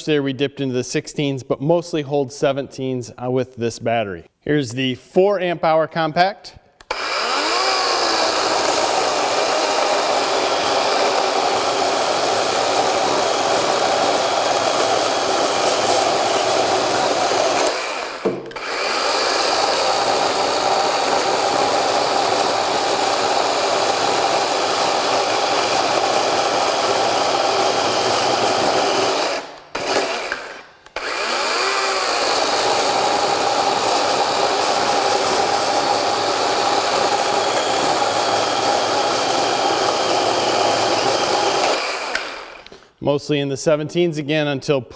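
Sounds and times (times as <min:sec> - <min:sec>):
chainsaw cutting wood: 0:06.8 - 0:43.0.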